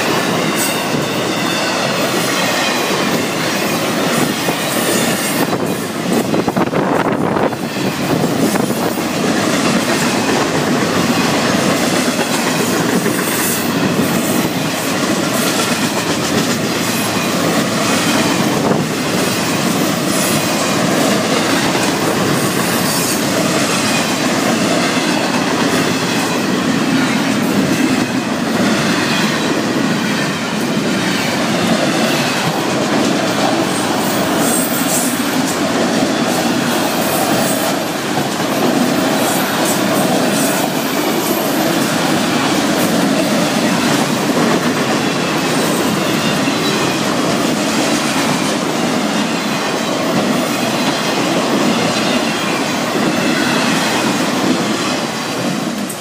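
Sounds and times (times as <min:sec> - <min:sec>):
freight train wheels rumbling: 0:00.0 - 0:56.0
sharp clacks of train wheels: 0:00.0 - 0:56.0.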